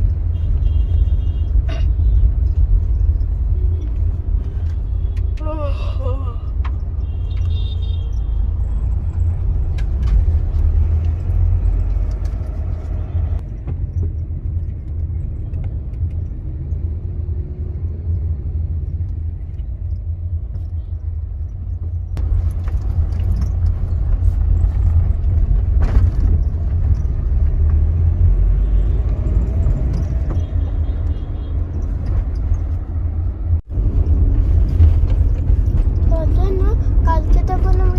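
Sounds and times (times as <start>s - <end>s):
car cabin road and engine rumble: 0.0s - 37.9s.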